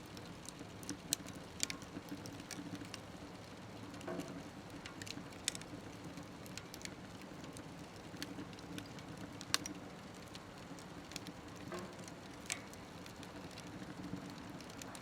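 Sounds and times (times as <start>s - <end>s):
fire burning in a wood stove: 0.0s - 15.0s
fire crackling: 0.0s - 15.0s
wood fire popping: 0.0s - 15.0s.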